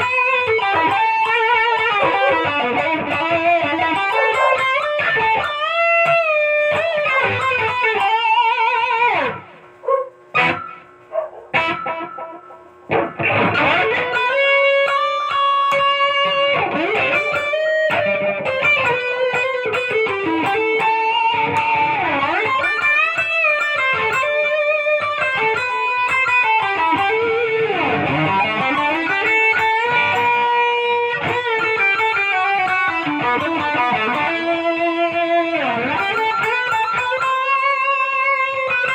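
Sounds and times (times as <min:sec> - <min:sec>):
electric guitar lead: 0:00.0 - 0:38.9.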